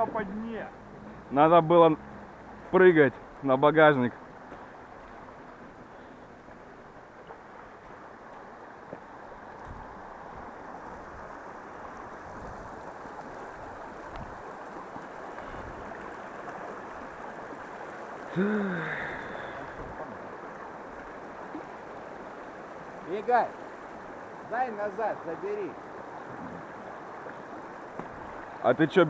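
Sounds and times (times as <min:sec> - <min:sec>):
flowing mountain stream: 0:00.0 - 0:29.0.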